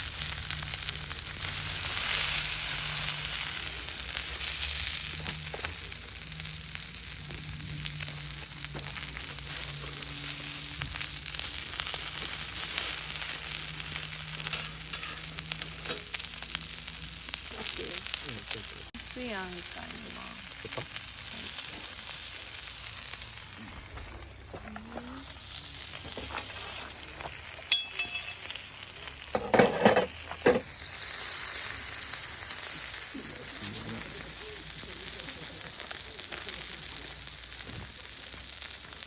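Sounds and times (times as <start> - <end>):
meat sizzling on a griddle: 0.0 - 39.0.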